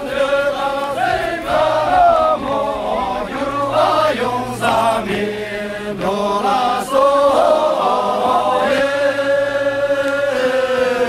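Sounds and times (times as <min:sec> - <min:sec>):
men singing in unison: 0:00.0 - 0:11.0.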